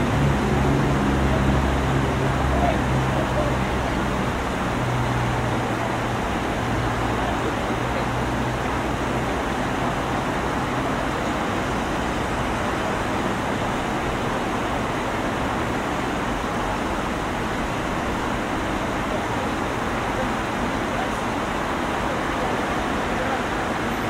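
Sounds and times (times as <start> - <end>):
cars passing on busy street: 0.0 - 24.0.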